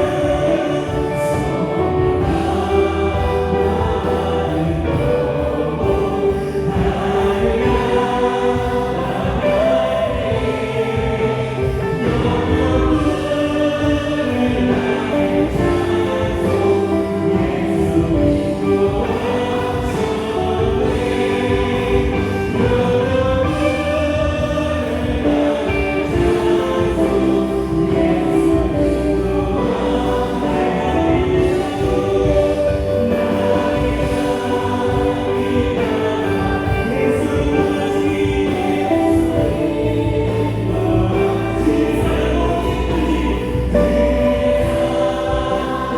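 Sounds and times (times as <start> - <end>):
bass guitar: 0.0 - 45.9
drums: 0.0 - 45.9
electric guitar: 0.0 - 45.9
group singing together: 0.0 - 45.9
keyboard: 0.0 - 45.9.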